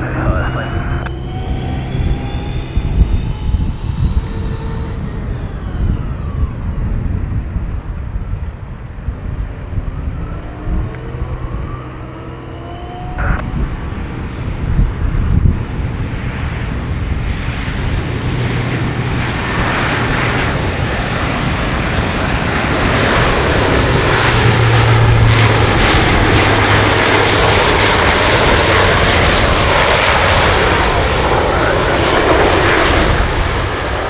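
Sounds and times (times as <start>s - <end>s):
aircraft engines running: 0.0s - 34.0s
faint high whine: 0.0s - 34.0s.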